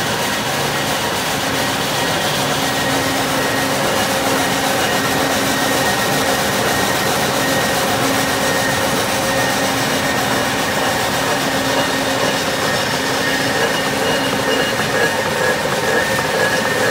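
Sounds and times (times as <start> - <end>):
steel slitting machine running: 0.0 - 16.9.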